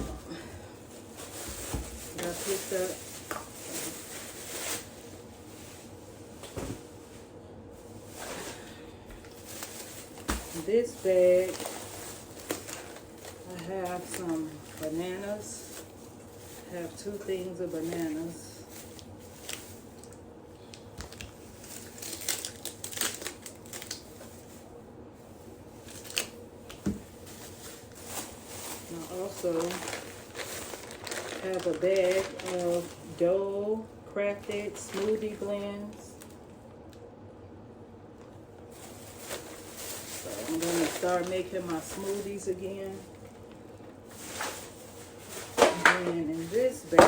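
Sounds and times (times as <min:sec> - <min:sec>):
grocery bags rustling: 0:00.0 - 0:36.5, 0:38.2 - 0:47.0.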